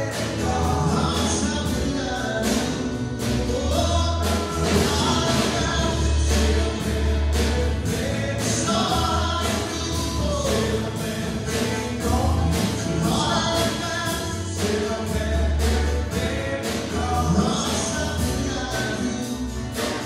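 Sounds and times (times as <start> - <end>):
drum kit beat: 0.0 - 20.0
guitar: 0.0 - 20.0
keyboard: 0.0 - 20.0
voices singing: 0.0 - 20.0.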